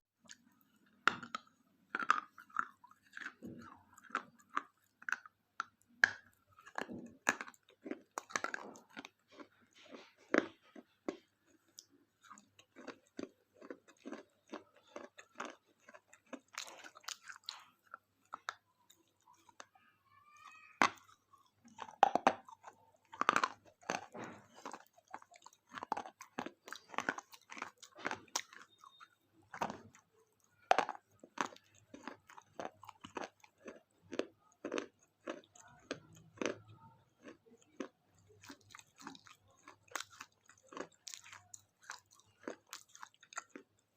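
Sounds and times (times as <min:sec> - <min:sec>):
person crunching wafer bar: 0:00.2 - 0:19.8, 0:20.5 - 0:43.9.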